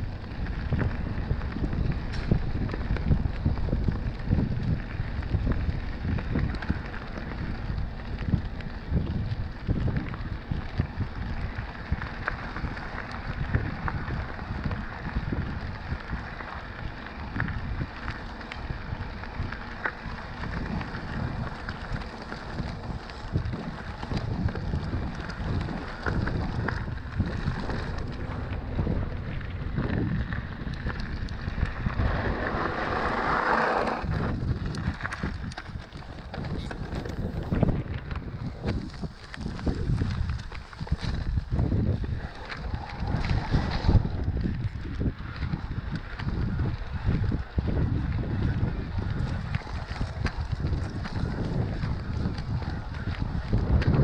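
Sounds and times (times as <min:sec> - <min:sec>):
tyres rumbling over rough ground: 0:00.0 - 0:54.0
wind buffeting microphone: 0:00.0 - 0:54.0.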